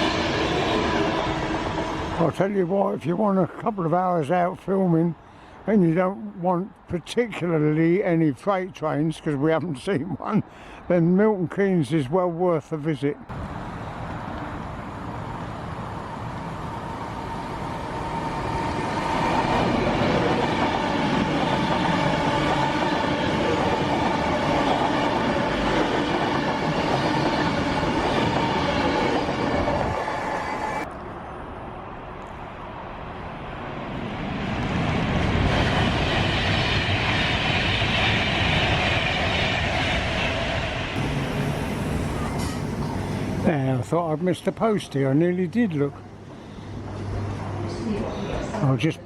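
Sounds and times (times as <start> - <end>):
train passing: 0.0 - 6.4, 13.3 - 49.0.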